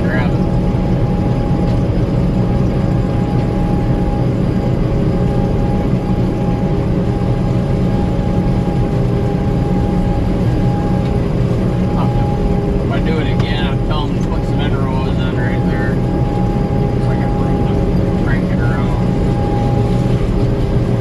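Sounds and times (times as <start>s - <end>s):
combine harvester drone: 0.0s - 21.0s
thin steady whine: 0.0s - 21.0s.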